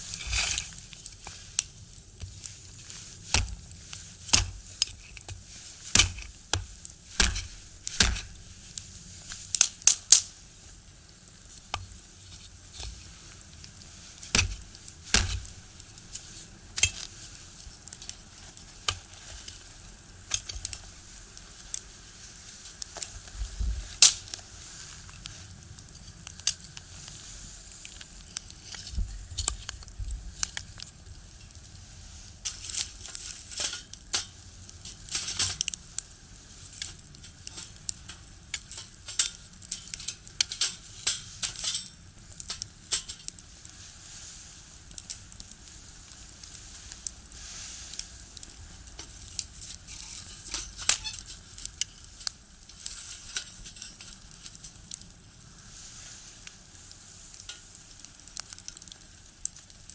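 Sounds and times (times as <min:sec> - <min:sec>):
firewood crackling and popping: 0:00.0 - 0:21.9, 0:32.4 - 0:44.0, 0:44.7 - 0:55.7, 0:56.3 - 0:59.9.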